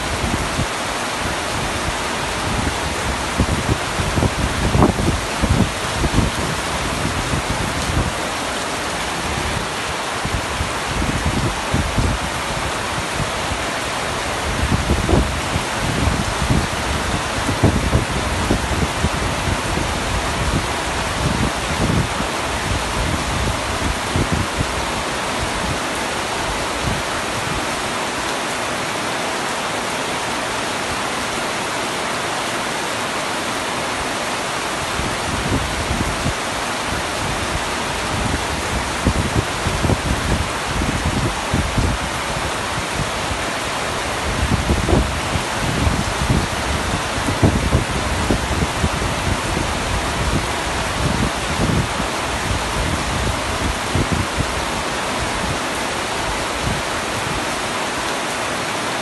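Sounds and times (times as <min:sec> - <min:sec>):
heavy rain on tent roof: 0:00.0 - 0:59.0.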